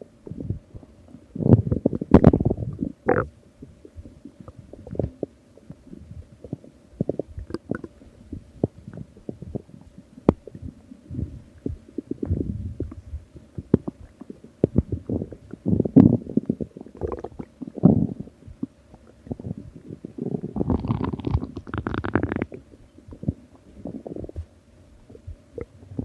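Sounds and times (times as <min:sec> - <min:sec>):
stomach growling: 0:00.0 - 0:26.0.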